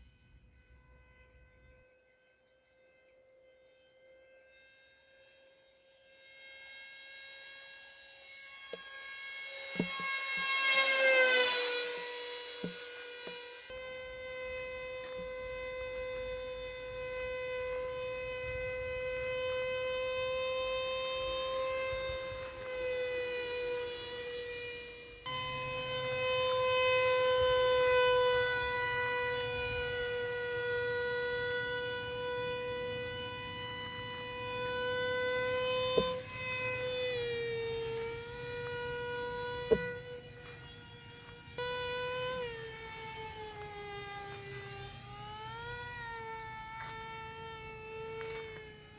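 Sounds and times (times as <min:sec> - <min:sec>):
model boat motor whining: 0:03.7 - 0:48.9.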